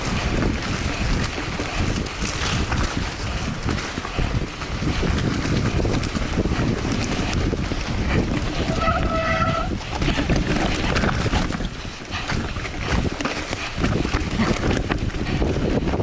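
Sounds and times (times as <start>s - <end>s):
bike rumbling and rattling: 0.0s - 16.0s
wind buffeting microphone: 0.0s - 16.0s.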